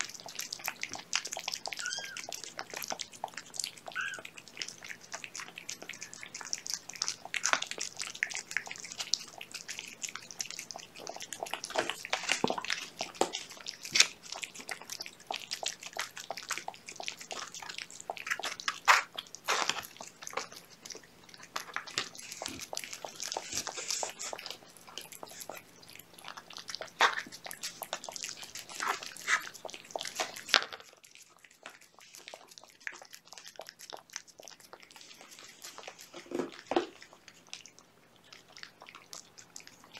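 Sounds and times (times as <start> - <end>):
cats chewing and lapping food: 0.0 - 39.9.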